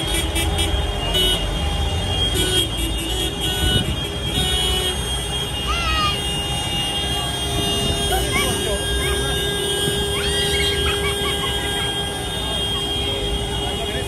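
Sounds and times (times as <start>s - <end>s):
tractor engines rumbling: 0.0s - 14.0s.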